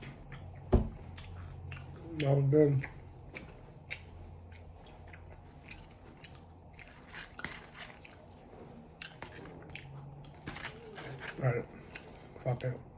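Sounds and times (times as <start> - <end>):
chewing crunchy food: 0.0 - 12.8
faint low hum: 0.0 - 12.9.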